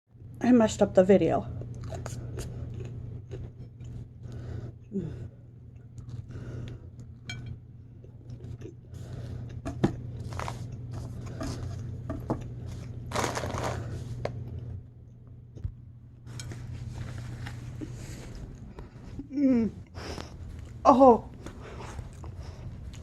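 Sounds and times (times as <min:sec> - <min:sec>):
steady low hum: 0:00.1 - 0:23.0.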